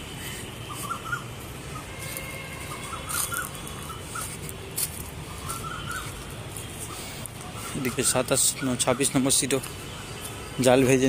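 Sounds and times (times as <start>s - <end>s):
birds chirping: 0.0s - 11.0s
low background noise: 0.0s - 11.0s.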